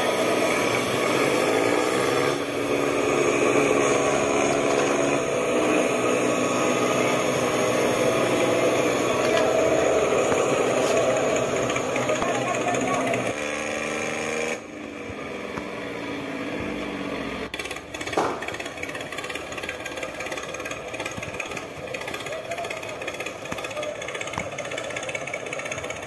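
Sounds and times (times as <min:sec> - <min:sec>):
engine chugging: 0:00.0 - 0:26.0.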